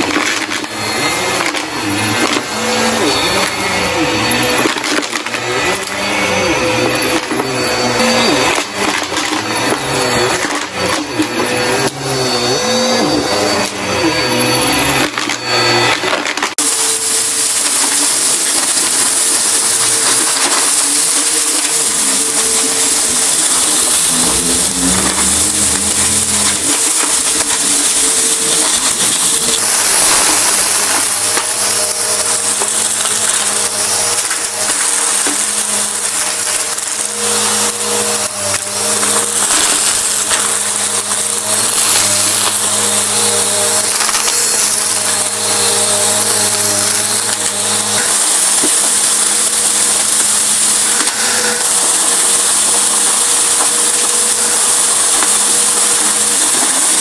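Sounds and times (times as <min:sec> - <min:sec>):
debris rattling in vacuum: 0:00.0 - 0:57.0
vacuum cleaner running: 0:00.0 - 0:57.0.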